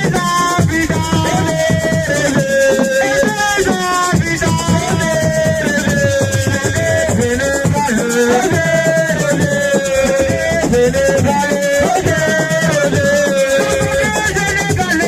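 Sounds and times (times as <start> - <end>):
drum and shaker percussion: 0.0 - 15.0.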